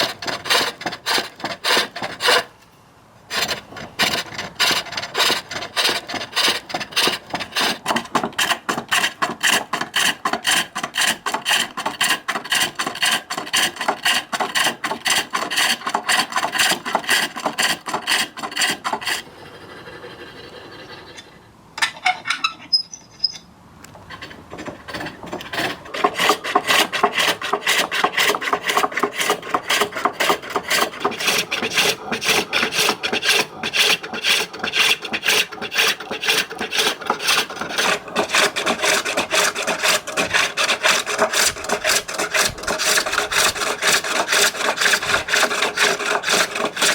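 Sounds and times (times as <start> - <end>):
lathe tool scraping spinning wood: 0.0 - 2.5, 3.3 - 19.2, 24.1 - 46.9.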